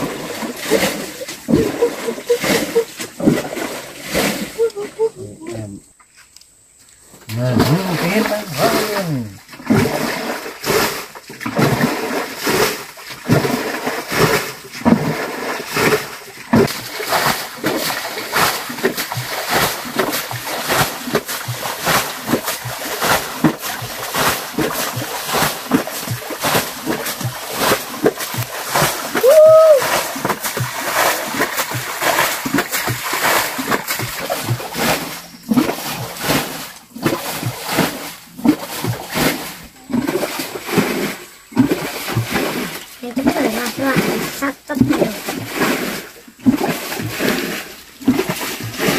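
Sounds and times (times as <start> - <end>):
water splashing in stream: 0.0 - 5.8, 7.3 - 48.9.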